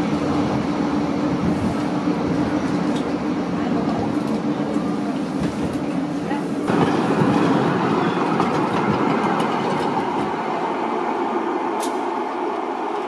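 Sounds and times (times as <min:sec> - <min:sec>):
tram running noise: 0:00.0 - 0:13.0.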